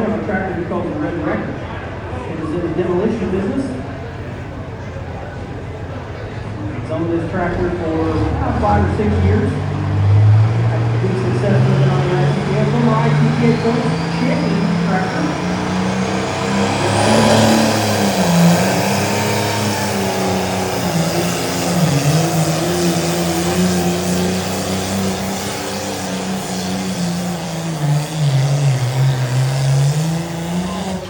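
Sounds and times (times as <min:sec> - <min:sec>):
tractor engine at high revs: 0:00.0 - 0:31.0.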